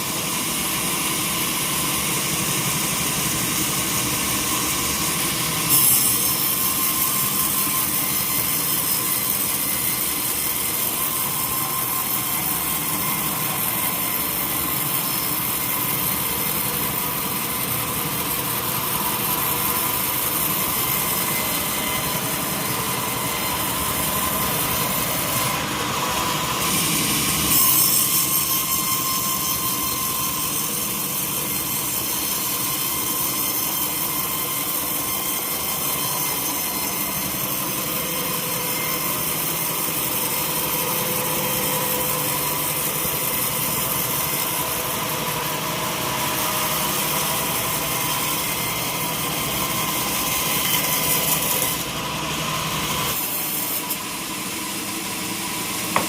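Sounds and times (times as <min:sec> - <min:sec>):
sawmill saw whining through log: 0:00.0 - 0:56.0.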